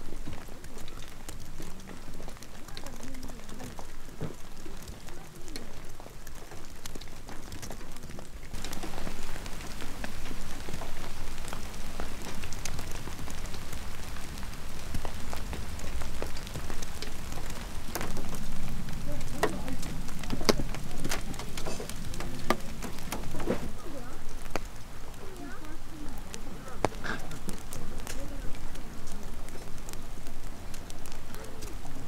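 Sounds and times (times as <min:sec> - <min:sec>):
rain and wet snow pattering: 0:00.0 - 0:32.0.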